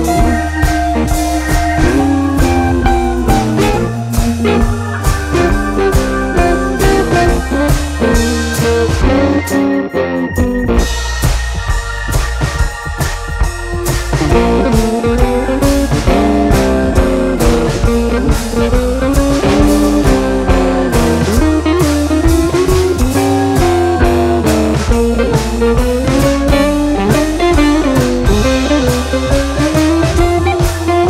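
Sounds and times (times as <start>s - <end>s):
guitar-led music with drum beat: 0.0s - 31.0s.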